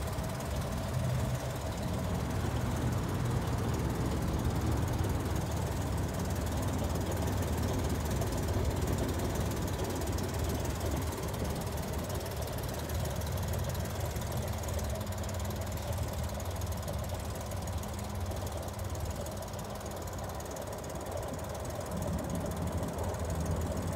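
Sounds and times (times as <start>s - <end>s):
van engine running: 0.0s - 23.9s.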